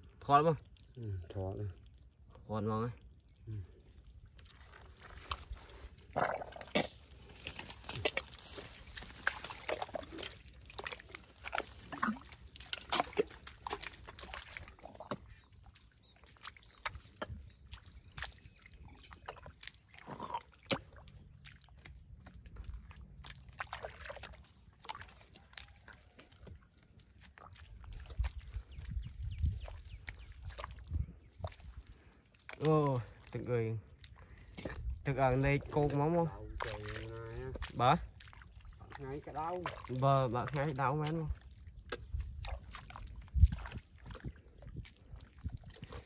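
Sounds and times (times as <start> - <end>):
bare feet squelching in wet mud: 0.0 - 46.0.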